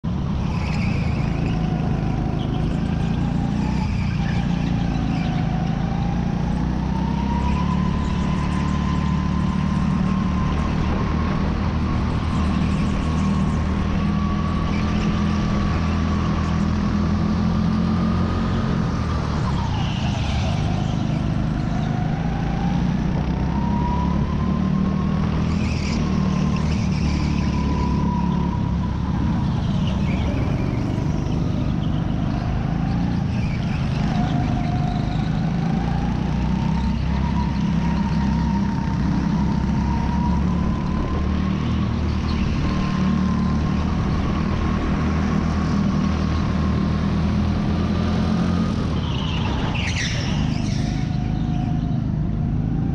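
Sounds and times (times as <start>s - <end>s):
go-kart engine whining: 0.0s - 52.9s
other karts passing: 0.2s - 52.9s.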